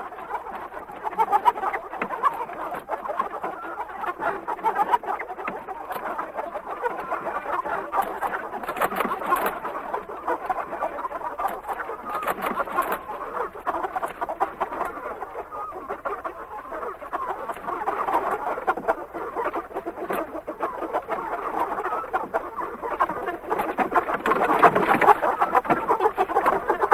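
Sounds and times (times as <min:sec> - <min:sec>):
chickens clucking: 0:00.0 - 0:26.9.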